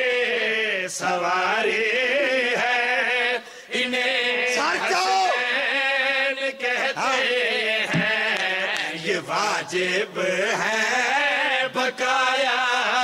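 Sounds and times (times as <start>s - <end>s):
men singing along: 0.0s - 13.0s.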